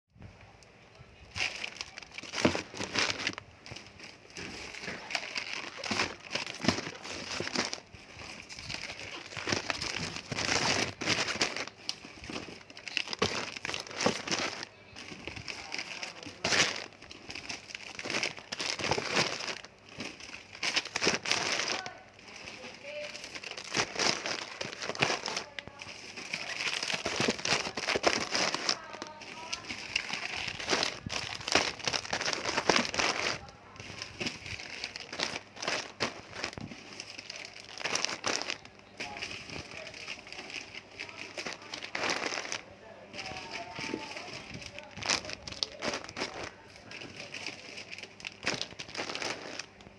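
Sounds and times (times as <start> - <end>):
plastic packaging crinkling: 1.0 - 49.9.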